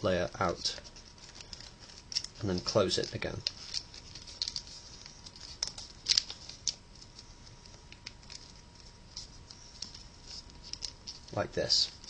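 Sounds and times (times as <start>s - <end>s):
paper rustling and crinkling: 0.3s - 12.0s.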